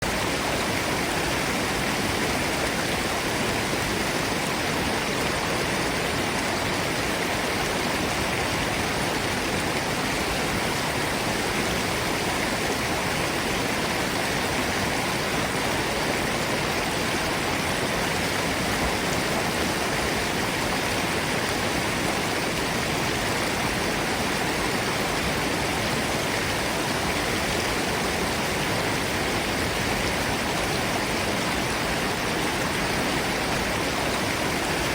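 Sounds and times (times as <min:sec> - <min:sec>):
waterfall and stream rushing: 0:00.0 - 0:34.9.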